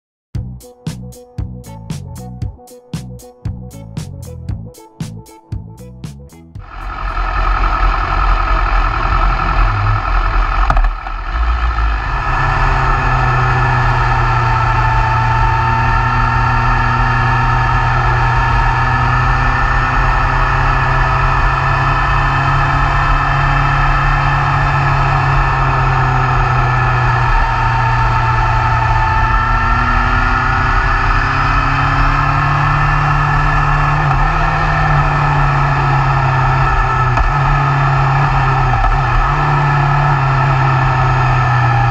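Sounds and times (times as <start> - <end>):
motorcycle engine running: 6.6 - 41.9.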